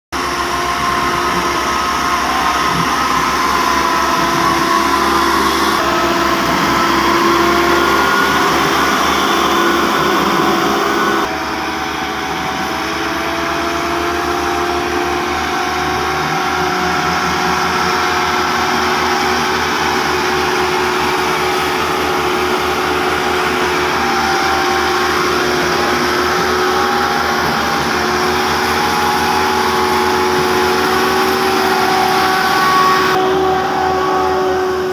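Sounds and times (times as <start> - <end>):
tractor engine running: 0.1 - 34.9
whine: 0.2 - 34.9.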